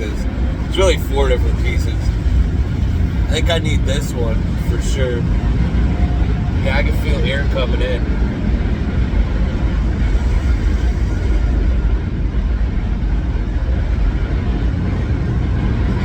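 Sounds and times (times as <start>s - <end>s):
car wash rushing rumble: 0.0s - 16.0s.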